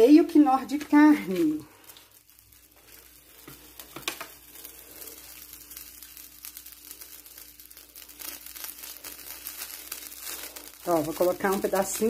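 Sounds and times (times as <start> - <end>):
milk sizzling in a pot: 0.0 - 12.0.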